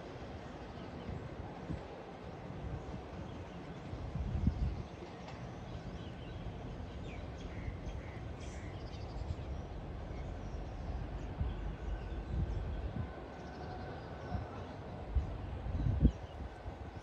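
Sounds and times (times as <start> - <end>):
distant diesel train rumbling: 0.0 - 17.0.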